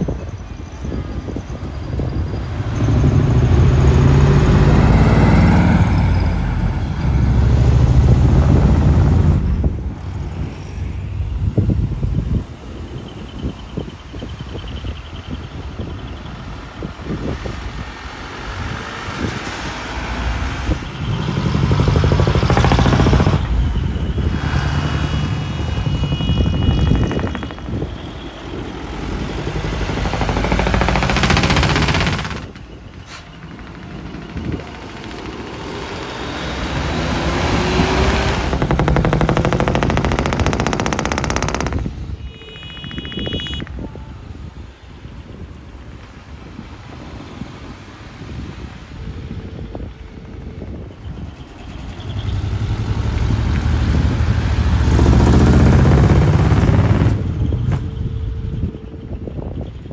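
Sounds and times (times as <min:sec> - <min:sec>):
trucks driving past: 0:00.0 - 0:59.9.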